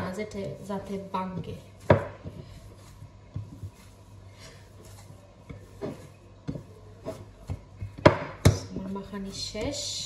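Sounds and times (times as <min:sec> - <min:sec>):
hands kneading cheese: 0:00.0 - 0:10.0.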